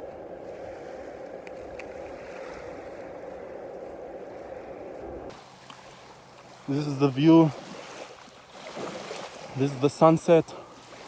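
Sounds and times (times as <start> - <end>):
small sea waves on a beach: 0.0 - 11.0.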